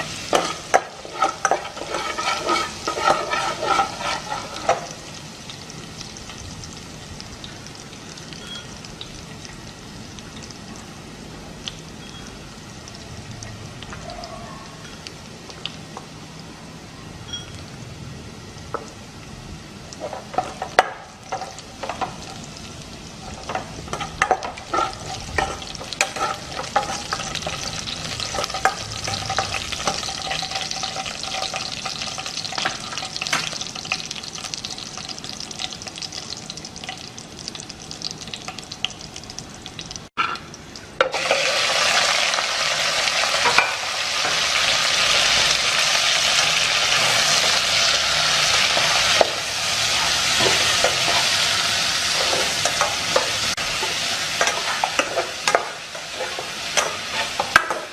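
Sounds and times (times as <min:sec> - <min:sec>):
food sizzling in a pan: 0:00.0 - 0:57.9.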